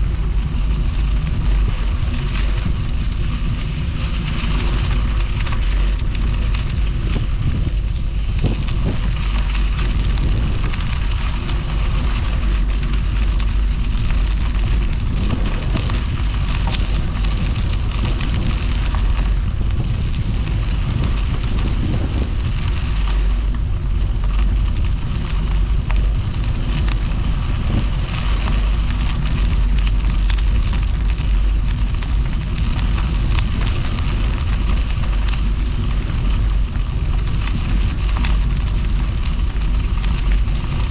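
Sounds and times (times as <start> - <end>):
bike tyres crackling on gravel: 0.0 - 40.9
wind rumbling on microphone: 0.0 - 40.9.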